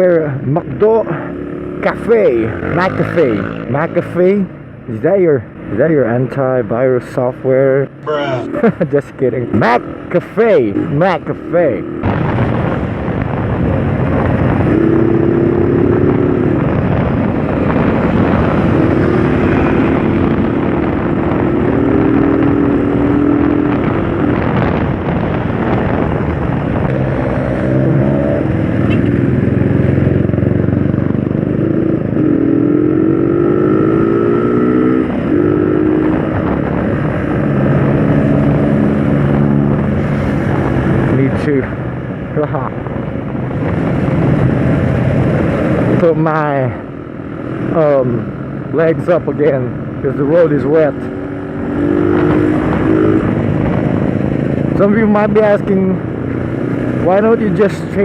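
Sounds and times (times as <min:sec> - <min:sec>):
wind and road noise: 0:00.0 - 0:58.0
motorcycle engine accelerating: 0:08.2 - 0:58.0.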